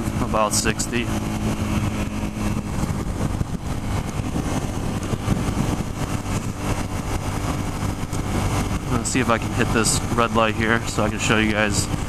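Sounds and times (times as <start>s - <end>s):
motorcycle engine running: 0.0s - 12.0s
wind rushing: 0.0s - 12.0s.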